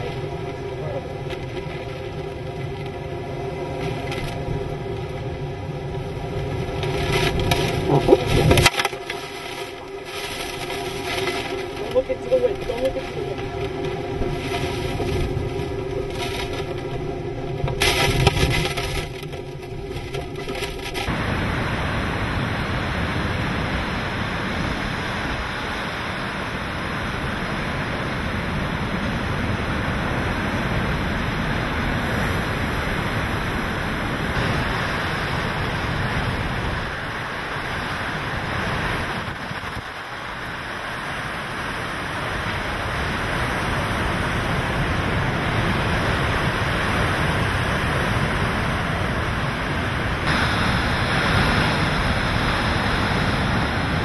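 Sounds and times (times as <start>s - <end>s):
hurricane wind and rain: 0.0s - 54.0s.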